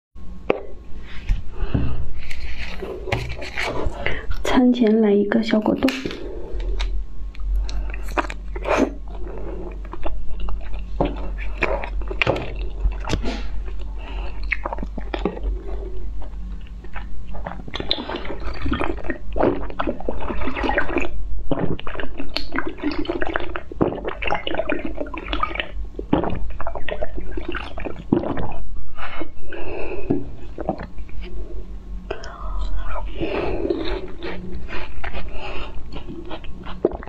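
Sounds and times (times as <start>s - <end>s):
wet chewing and slurping: 2.0s - 4.5s, 6.0s - 31.4s, 32.0s - 37.0s.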